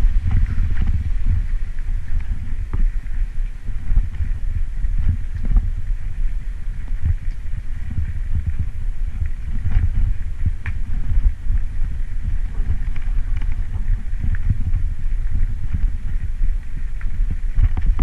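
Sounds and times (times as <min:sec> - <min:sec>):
bicycle rumbling over gravel: 0:00.0 - 0:18.0
wind buffeting microphone: 0:00.0 - 0:18.0.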